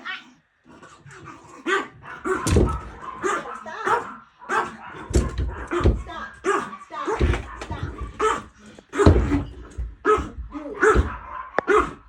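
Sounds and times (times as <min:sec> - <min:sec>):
dog barking: 0:01.6 - 0:12.0.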